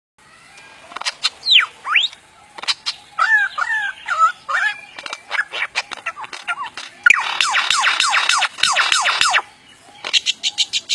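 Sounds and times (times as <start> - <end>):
lyrebird singing: 0.3 - 10.9.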